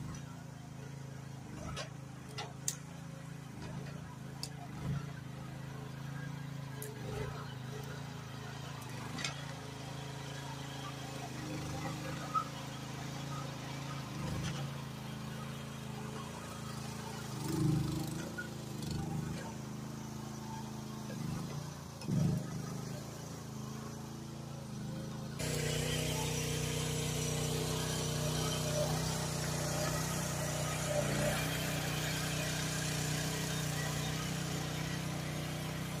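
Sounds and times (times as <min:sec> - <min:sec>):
mini excavator engine running: 0:00.0 - 0:36.0.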